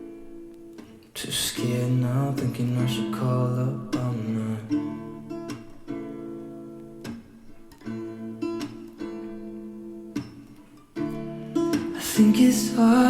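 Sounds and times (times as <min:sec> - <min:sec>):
acoustic guitar chords ringing: 0:00.0 - 0:13.0.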